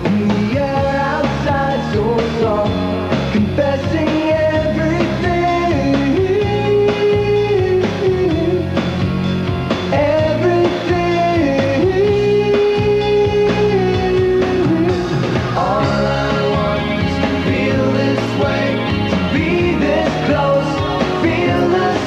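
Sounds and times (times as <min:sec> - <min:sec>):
rock guitar and drums: 0:00.0 - 0:22.0.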